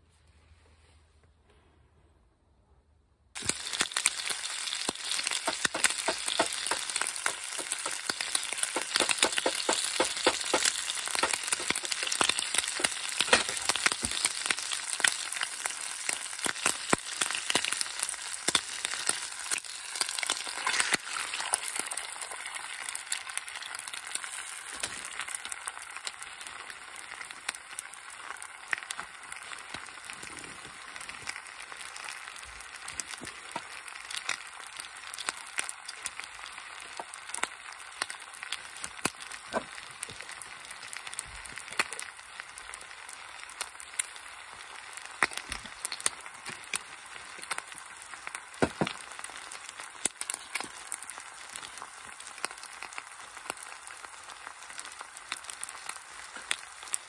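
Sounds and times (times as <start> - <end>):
bacon sizzling in a frying pan: 3.4 - 57.0.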